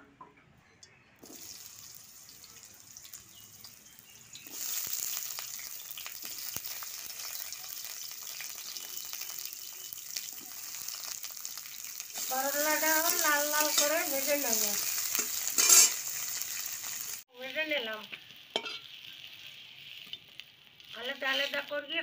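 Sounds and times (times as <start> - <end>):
vegetables sizzling in hot oil: 1.2 - 22.0.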